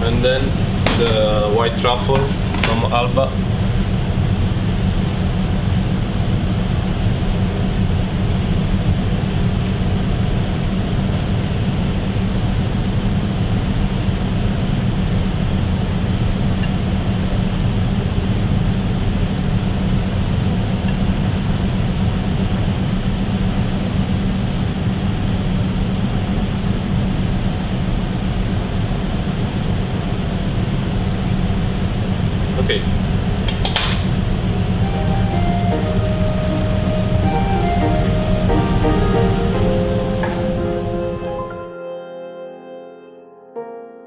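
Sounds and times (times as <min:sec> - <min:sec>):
ventilation fan humming: 0:00.0 - 0:41.7.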